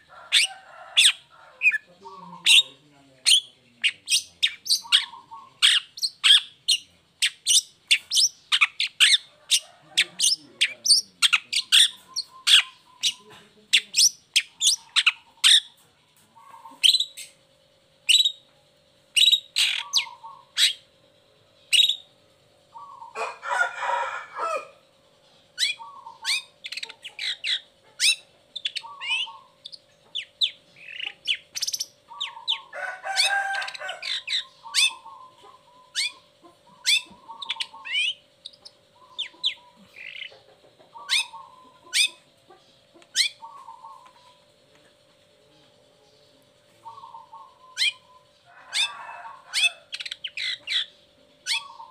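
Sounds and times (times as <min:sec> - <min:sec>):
bird singing sharp calls: 0:00.0 - 0:15.8, 0:19.1 - 0:20.9, 0:21.6 - 0:22.1, 0:25.6 - 0:44.4, 0:46.1 - 0:51.9.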